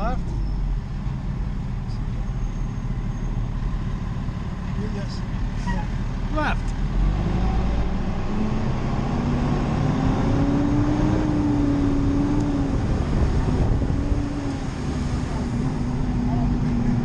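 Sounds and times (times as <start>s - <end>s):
diesel truck engine under load: 0.0s - 17.0s.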